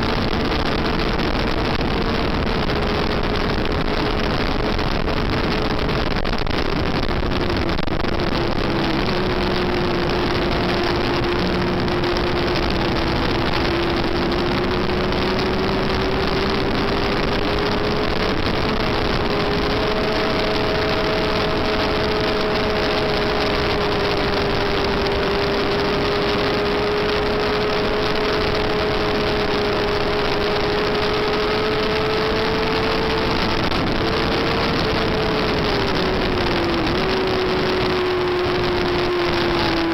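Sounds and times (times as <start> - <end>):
motorcycle engine at high revs: 0.0 - 39.9
wind rushing: 0.0 - 39.9.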